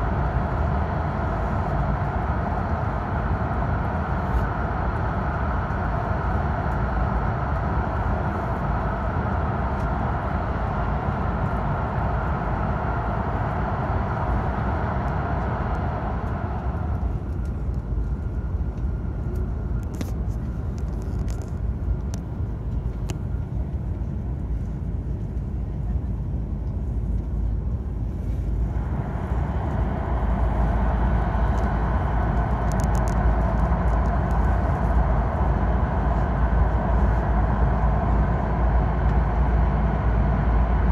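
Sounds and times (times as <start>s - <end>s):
train roar inside cabin: 0.0s - 40.9s.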